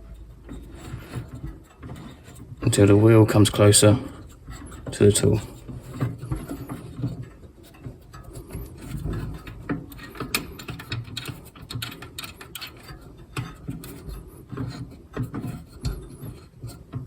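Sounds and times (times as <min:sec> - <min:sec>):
metal parts clicking and knocking: 0:00.0 - 0:17.0.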